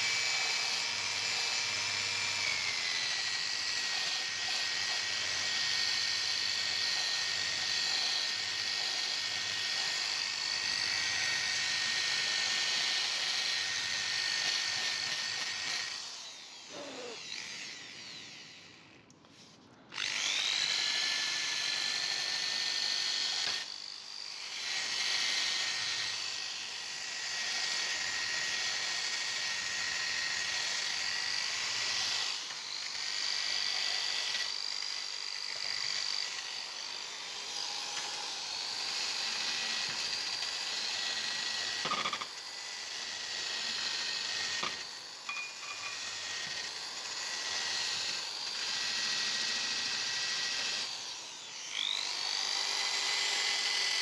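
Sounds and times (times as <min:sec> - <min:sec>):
drill motor whine: 0:00.0 - 0:54.0.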